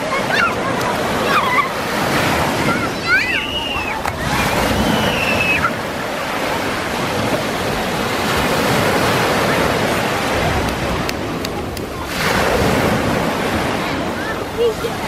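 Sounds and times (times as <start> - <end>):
waves breaking on shore: 0.0 - 15.0.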